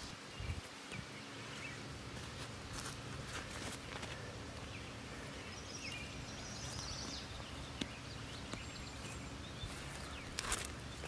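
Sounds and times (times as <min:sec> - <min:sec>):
birds chirping: 0:00.0 - 0:11.0
outdoor background hum: 0:00.0 - 0:11.0.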